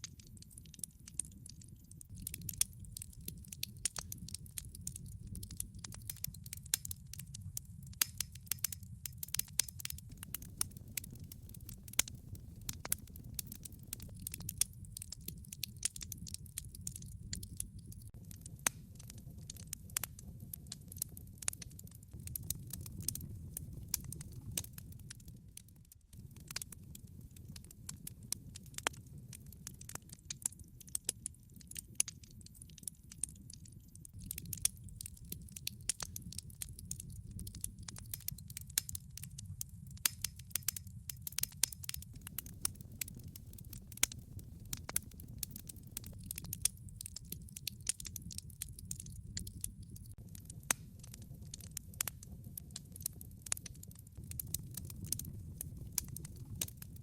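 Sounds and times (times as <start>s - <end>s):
burning logs popping and crackling: 0.0s - 57.0s
fire rumbling in fireplace: 0.0s - 57.0s.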